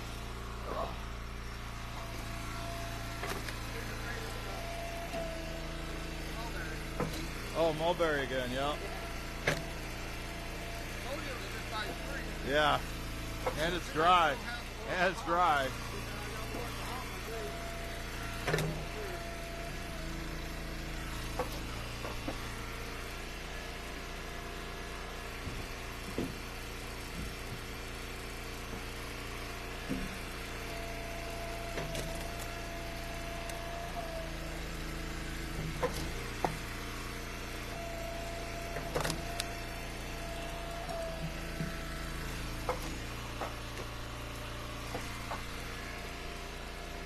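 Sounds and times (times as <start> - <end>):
wood splitter engine running: 0.0 - 47.0.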